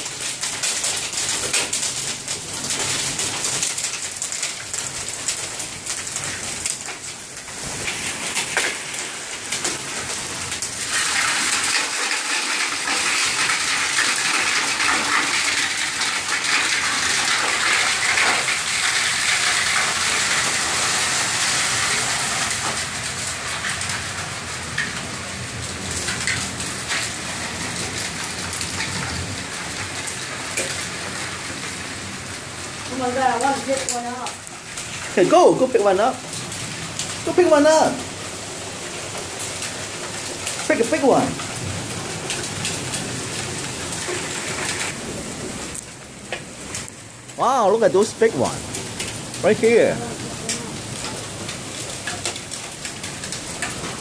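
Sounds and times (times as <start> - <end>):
hailstones ticking: 0.0 - 54.0
heavy rain: 0.0 - 54.0.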